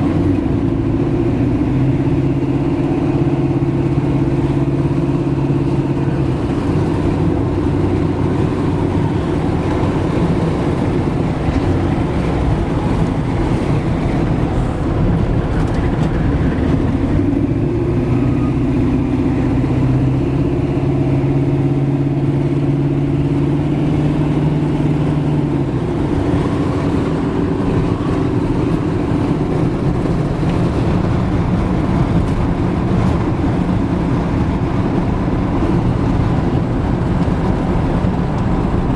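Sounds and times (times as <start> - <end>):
car engine running: 0.0 - 38.9
road and tyre noise: 0.0 - 38.9.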